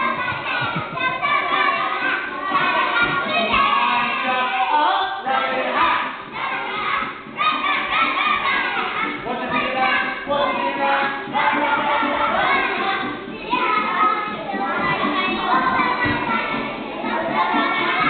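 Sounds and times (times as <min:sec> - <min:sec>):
children singing and shouting: 0:00.0 - 0:18.0
music: 0:00.0 - 0:18.0.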